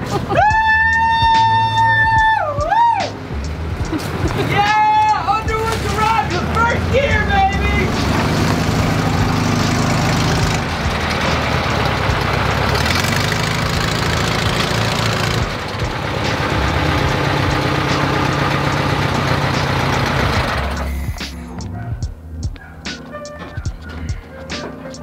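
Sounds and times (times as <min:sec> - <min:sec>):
air-cooled engine revving: 0:03.0 - 0:24.8.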